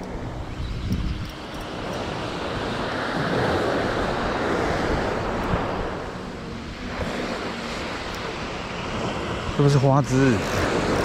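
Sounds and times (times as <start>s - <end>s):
waves washing on a beach: 0.0s - 11.0s
wind rumbling on microphone: 0.0s - 11.0s.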